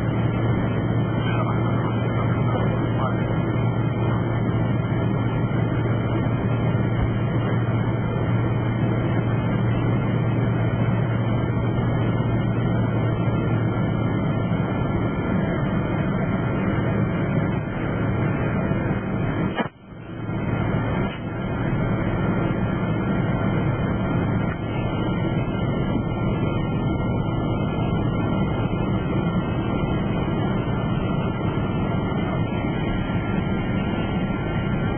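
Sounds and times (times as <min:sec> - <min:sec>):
airliner engine drone in cabin: 0:00.0 - 0:34.9.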